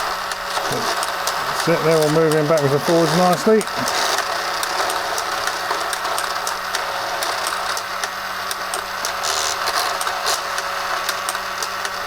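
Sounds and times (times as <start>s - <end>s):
small electric motor humming: 0.0s - 12.0s
plastic gears rattling: 0.4s - 12.0s.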